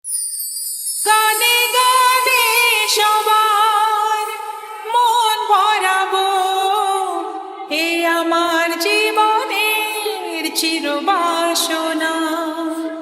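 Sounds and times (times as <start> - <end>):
slow song with wavering melody: 0.2 - 13.0.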